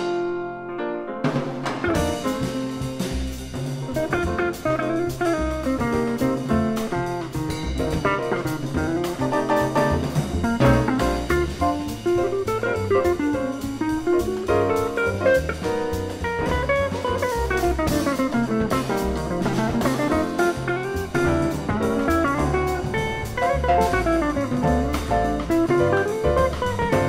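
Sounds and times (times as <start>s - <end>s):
walking bass: 1.2s - 27.0s.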